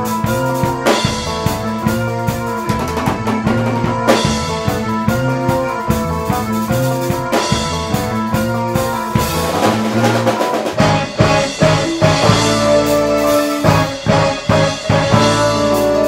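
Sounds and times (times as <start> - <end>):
drum kit and cymbals: 0.0 - 16.0
electric bass: 0.0 - 16.0
sustained keyboard notes: 0.0 - 16.0.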